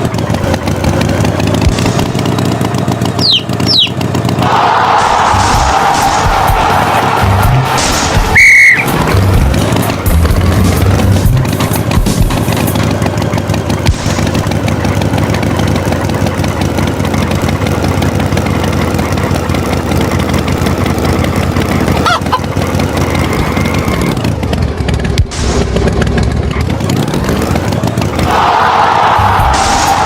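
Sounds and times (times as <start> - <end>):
cartoon tractor engine: 0.0 - 30.0.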